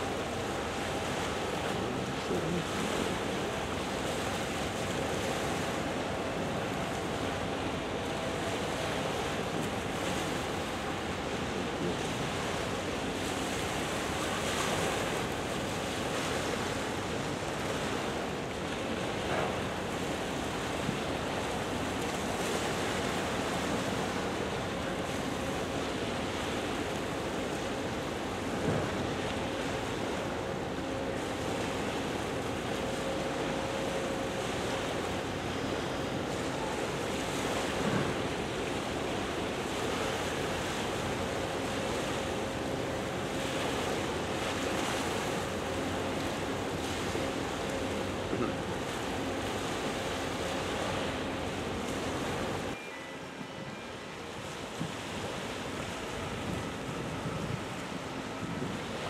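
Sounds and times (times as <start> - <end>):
water noise: 0.0 - 59.0
wind: 0.0 - 59.0.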